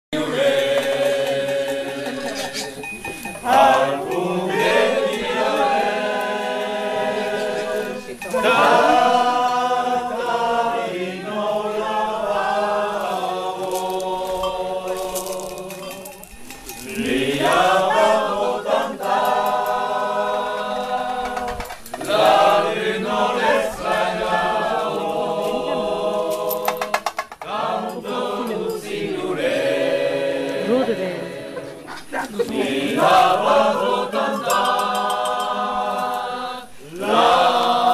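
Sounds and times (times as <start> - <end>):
group singing a cappella: 0.2 - 37.9.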